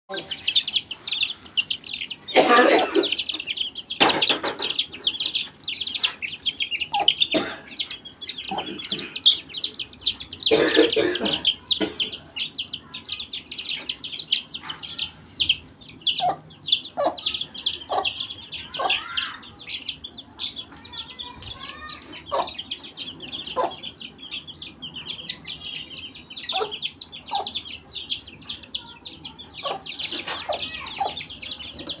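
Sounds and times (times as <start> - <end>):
chicken clucking: 0.1 - 32.0
chicks peeping: 0.1 - 32.0.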